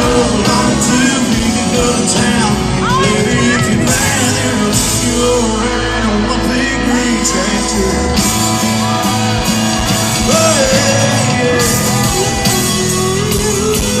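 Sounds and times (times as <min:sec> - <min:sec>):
country-rock band playing: 0:00.0 - 0:14.0
person singing: 0:00.0 - 0:14.0.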